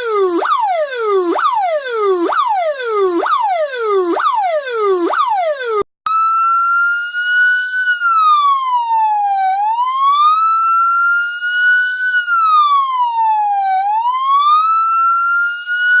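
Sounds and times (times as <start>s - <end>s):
electronic siren wailing: 0.0s - 16.0s.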